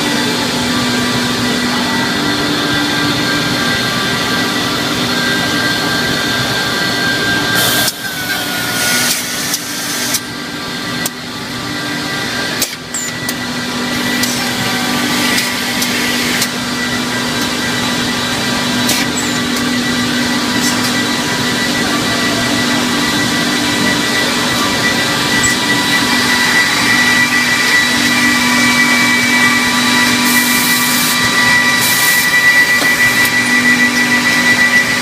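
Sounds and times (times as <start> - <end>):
machine humming and whining: 0.0 - 35.0.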